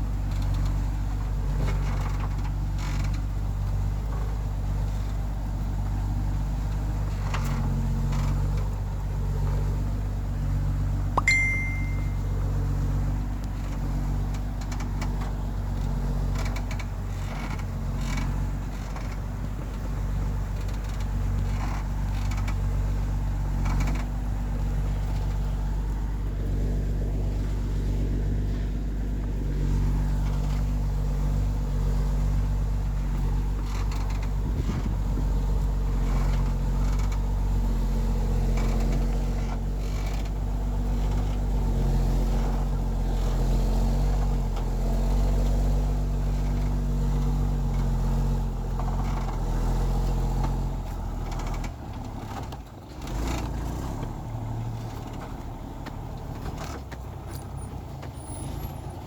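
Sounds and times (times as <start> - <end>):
truck engine running: 0.0 - 59.0
knocks and creaks: 0.1 - 9.8, 11.1 - 59.0.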